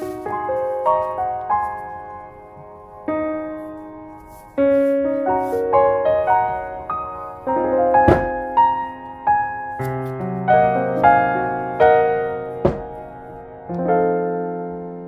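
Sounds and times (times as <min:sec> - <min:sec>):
solo piano melody: 0:00.0 - 0:15.0.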